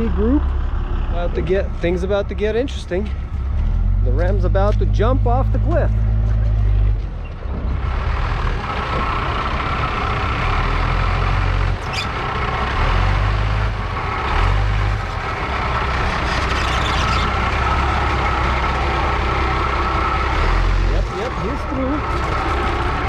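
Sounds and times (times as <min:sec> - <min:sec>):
pickup truck engine rumbling: 0:00.0 - 0:23.0.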